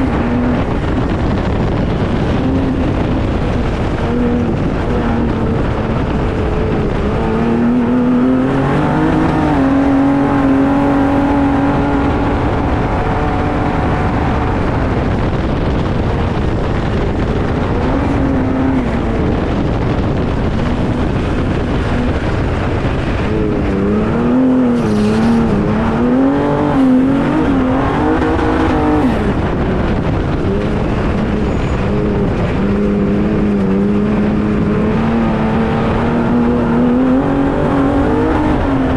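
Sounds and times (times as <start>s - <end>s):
road and wind noise: 0.0s - 38.9s
truck engine revving: 0.0s - 38.9s.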